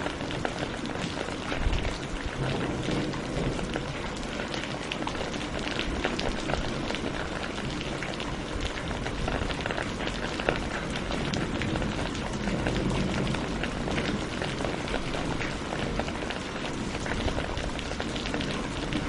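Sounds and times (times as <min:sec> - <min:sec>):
rain drops striking a surface: 0:00.0 - 0:19.0.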